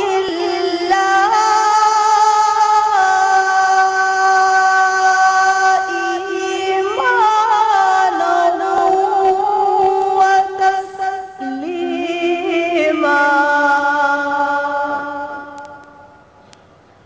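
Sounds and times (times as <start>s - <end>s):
solo voice chanting: 0.0s - 16.2s.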